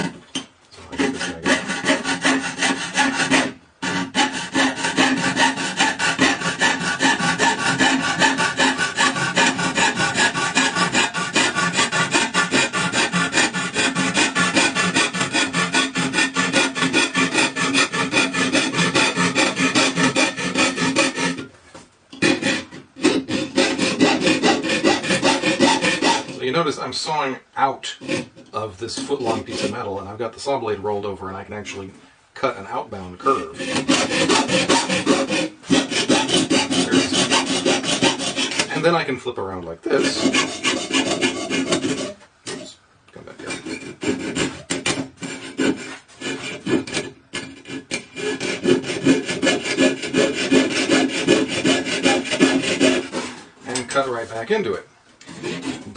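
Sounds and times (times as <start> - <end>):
coping saw cutting: 0.8 - 21.5, 22.2 - 26.6, 27.9 - 30.0, 33.0 - 39.1, 39.9 - 42.8, 43.4 - 54.5, 55.2 - 55.9.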